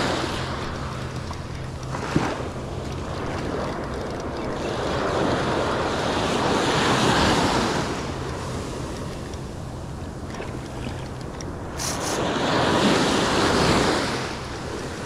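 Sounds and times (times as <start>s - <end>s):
ocean surf breaking: 0.0s - 15.0s
wind rumble on microphone: 0.0s - 15.0s.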